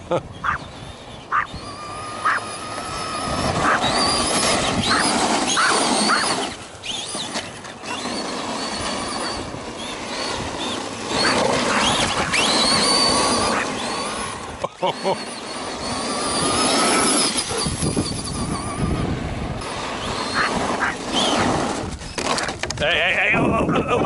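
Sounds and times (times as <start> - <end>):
steady rushing noise: 0.0 - 14.6, 15.3 - 24.0
electric motors whining: 0.0 - 23.7.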